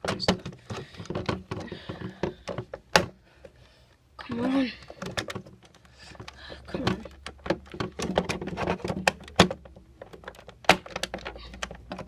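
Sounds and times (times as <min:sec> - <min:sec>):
hard plastic clicking and knocking: 0:00.0 - 0:03.6, 0:04.9 - 0:12.0.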